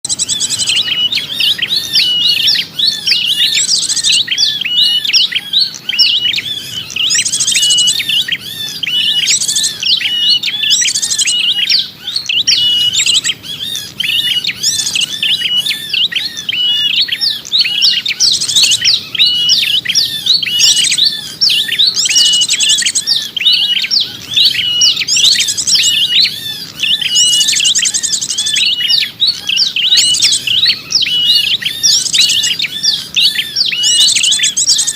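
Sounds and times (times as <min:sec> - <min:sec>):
buzzy bird trill: 0:00.0 - 0:34.9
small songbird chirping rapidly: 0:00.0 - 0:34.9.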